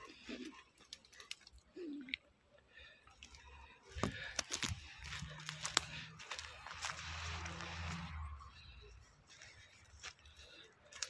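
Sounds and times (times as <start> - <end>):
dry twigs crackling: 0.0 - 2.0, 2.7 - 11.0.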